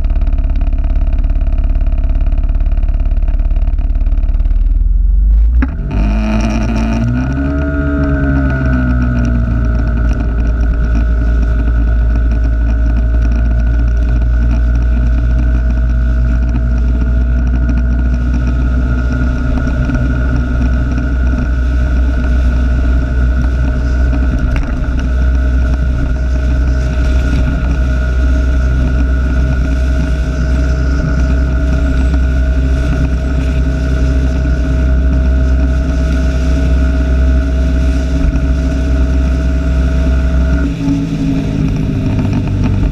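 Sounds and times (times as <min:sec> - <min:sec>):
steady whine: 0:00.0 - 0:42.9
vehicle engine drone: 0:00.0 - 0:42.9.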